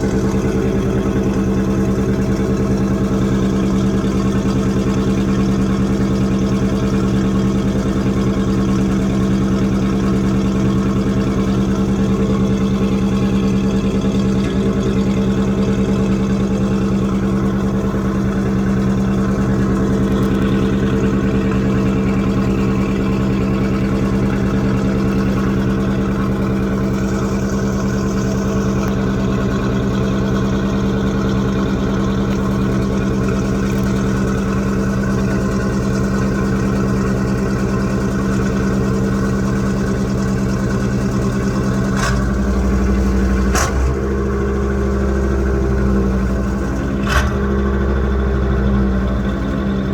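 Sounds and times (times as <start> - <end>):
suv engine idling: 0.0 - 49.9.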